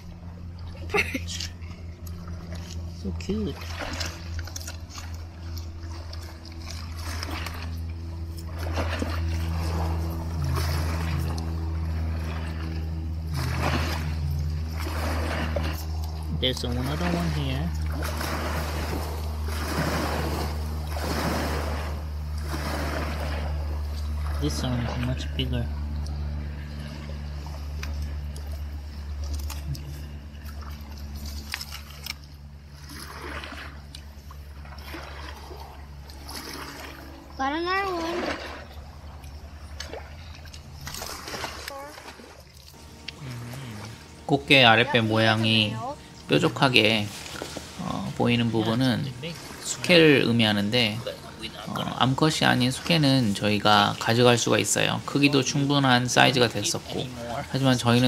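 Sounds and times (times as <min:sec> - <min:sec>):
steady low rumble: 0:00.0 - 0:41.8, 0:42.4 - 0:58.0
shallow water splashing: 0:00.0 - 0:58.0.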